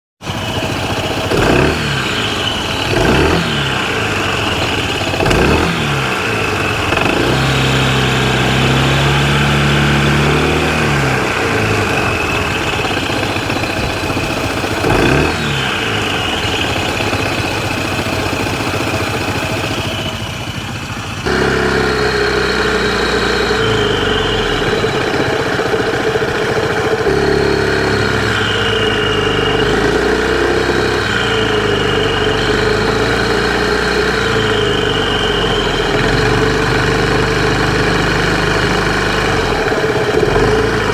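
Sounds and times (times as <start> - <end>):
scooter engine revving: 0.2 - 40.9
whining noise: 0.3 - 40.9.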